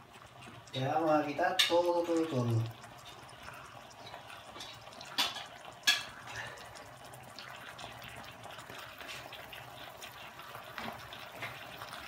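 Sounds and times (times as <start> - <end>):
kitchen tap running: 0.0 - 12.0.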